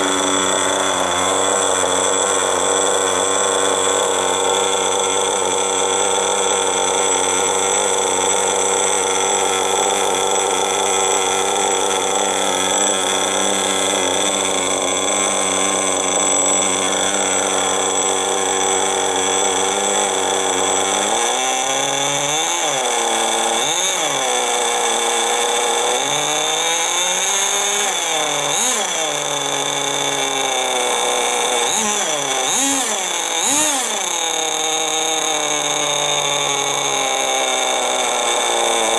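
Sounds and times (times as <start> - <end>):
model engine running and revving: 0.0 - 38.9.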